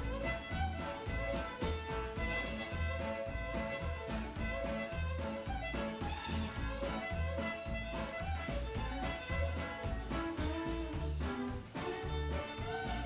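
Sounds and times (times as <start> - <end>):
upbeat swing jazz music: 0.0 - 13.0.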